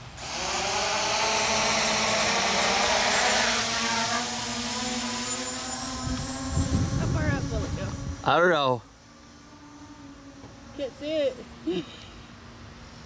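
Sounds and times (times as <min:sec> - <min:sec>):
drone propellers whirring: 0:00.0 - 0:13.0.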